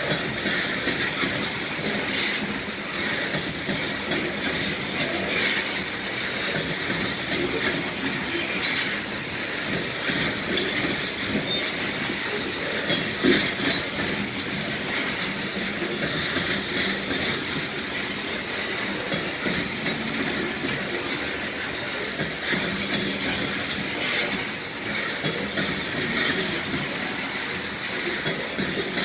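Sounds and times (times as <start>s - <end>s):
steel wheels rolling on rails: 0.0s - 29.0s.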